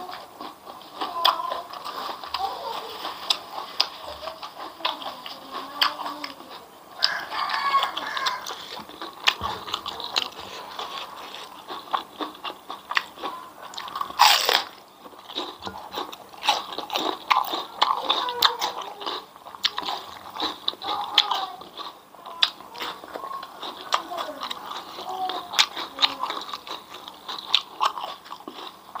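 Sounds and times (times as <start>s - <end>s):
crunchy chewing: 0.0s - 29.0s.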